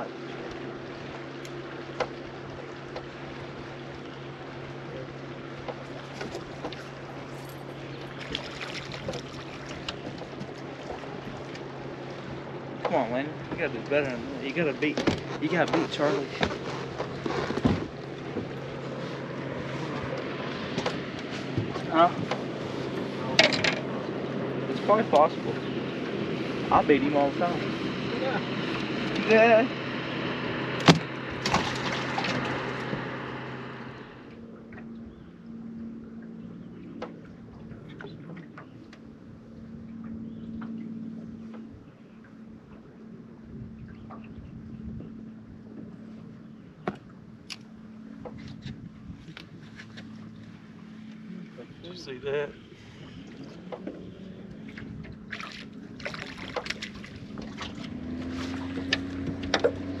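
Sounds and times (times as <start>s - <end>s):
low steady hum: 0.0s - 60.0s
water and wind hiss: 0.0s - 60.0s.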